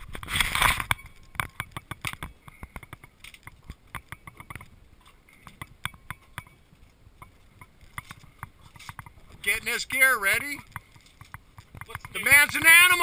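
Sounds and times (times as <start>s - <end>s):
light clicks and knocks of gear: 0.1s - 13.0s.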